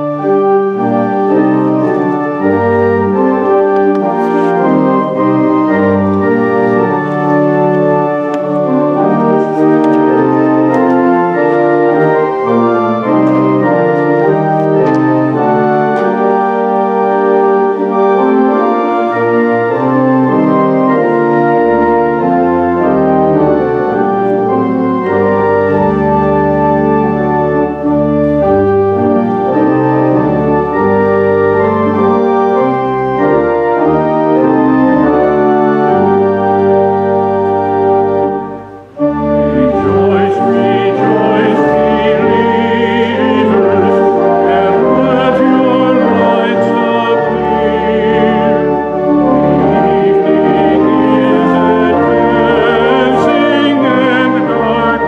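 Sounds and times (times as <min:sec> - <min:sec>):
deep organ bass notes: 0:00.0 - 0:55.0
organ playing held chords: 0:00.0 - 0:55.0.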